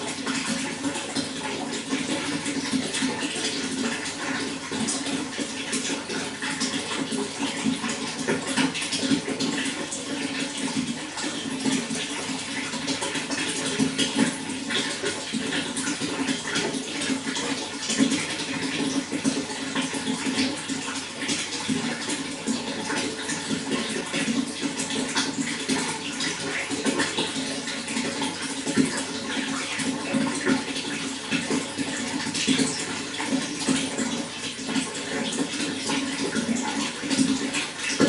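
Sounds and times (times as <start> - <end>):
running water splashing and gurgling: 0.0 - 38.0.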